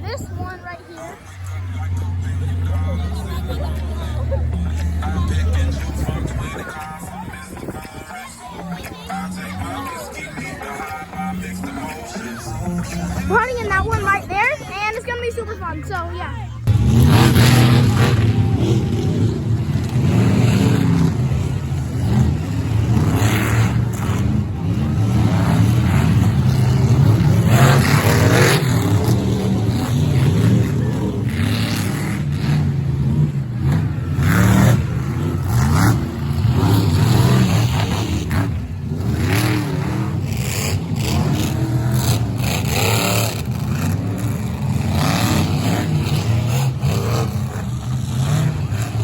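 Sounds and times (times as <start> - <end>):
truck engine revving: 0.0 - 49.0.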